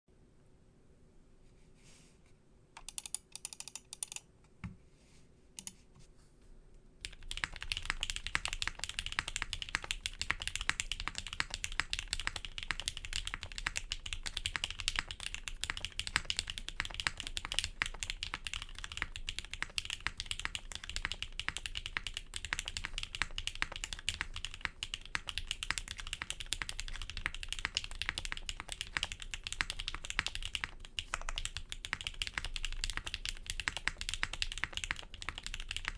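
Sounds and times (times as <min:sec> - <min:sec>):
mechanical keyboard typing: 0:02.8 - 0:04.3, 0:07.0 - 0:35.9.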